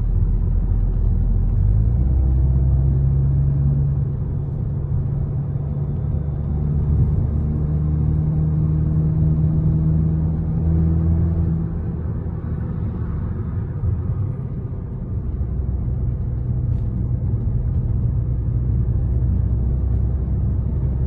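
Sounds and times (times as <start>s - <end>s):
car engine droning: 0.0s - 21.0s.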